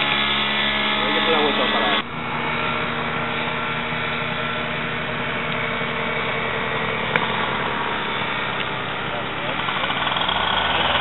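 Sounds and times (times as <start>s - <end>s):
paramotor engine idling: 0.0s - 11.0s.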